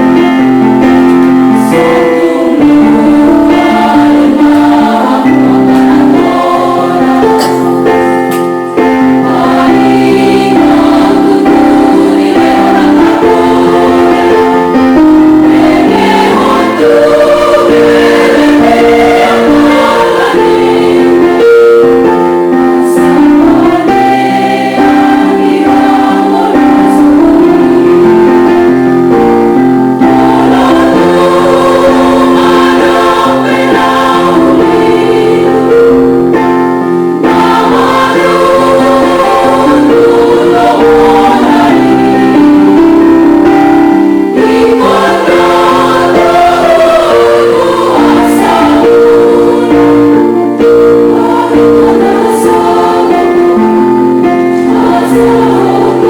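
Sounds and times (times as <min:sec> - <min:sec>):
women's choir singing a hymn: 0:00.0 - 0:56.0.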